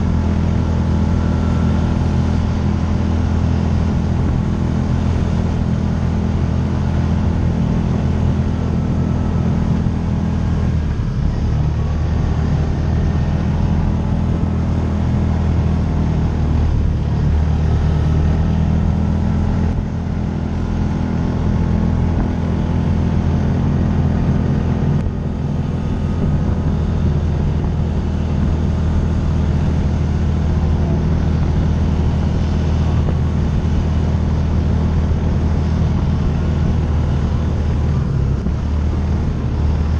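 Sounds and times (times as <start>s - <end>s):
utility vehicle engine running: 0.0s - 39.9s.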